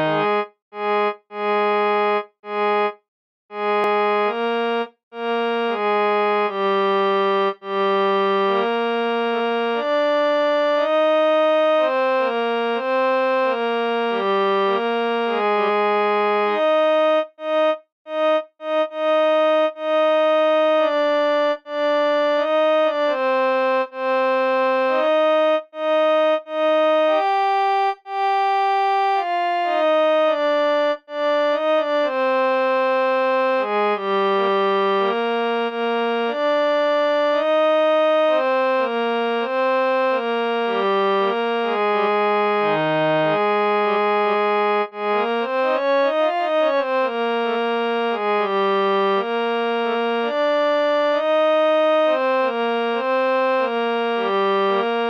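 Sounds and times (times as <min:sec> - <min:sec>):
harmonium playing a tune: 0:00.0 - 0:55.0.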